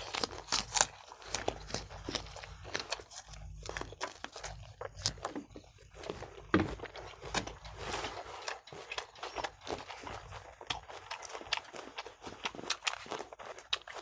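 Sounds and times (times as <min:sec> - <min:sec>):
crunching and chewing fruit: 0:00.0 - 0:14.0.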